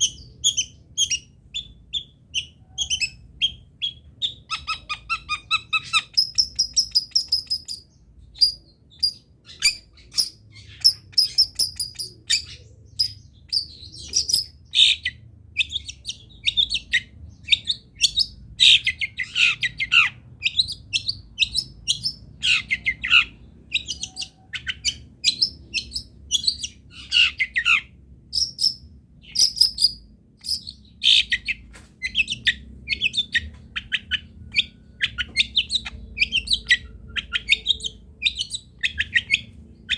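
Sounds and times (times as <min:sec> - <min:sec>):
shrike singing chattering trills: 0:00.0 - 0:39.9.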